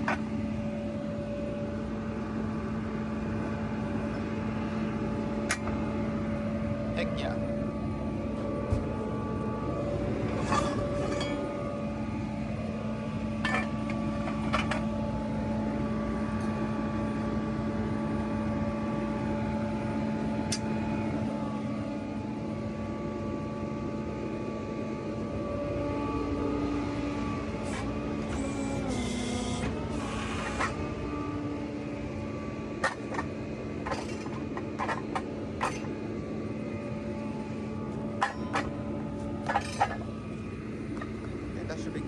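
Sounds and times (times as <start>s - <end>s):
hydraulic whine: 0.0s - 42.0s.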